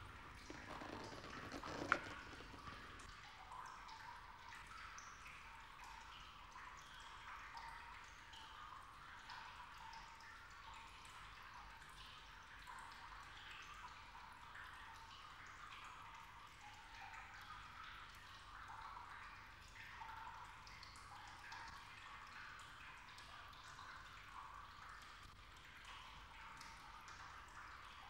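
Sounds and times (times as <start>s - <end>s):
faint water dripping: 0.0s - 28.0s.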